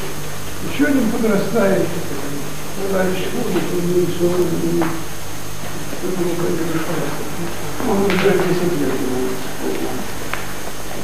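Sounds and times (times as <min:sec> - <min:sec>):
low hum: 0:00.0 - 0:11.0
tape hiss: 0:00.0 - 0:11.0
faint voices talking: 0:00.6 - 0:10.3.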